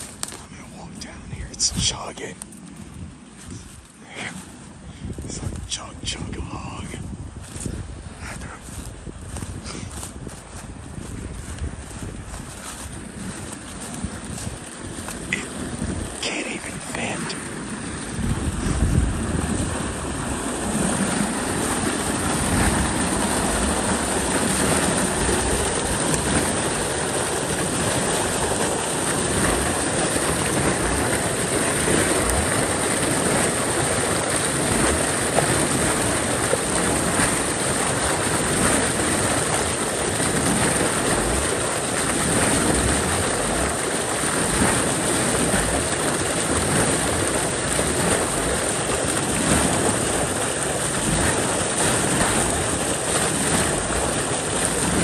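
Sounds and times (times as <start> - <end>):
water gushing and splashing: 0.0 - 55.0.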